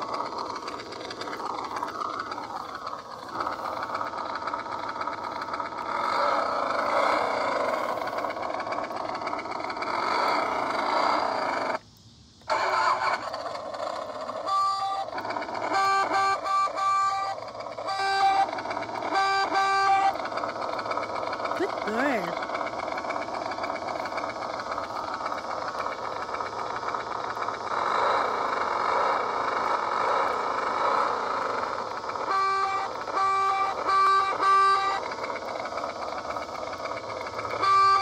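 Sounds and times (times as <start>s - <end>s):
toy motorcycle whirring: 0.0s - 38.0s.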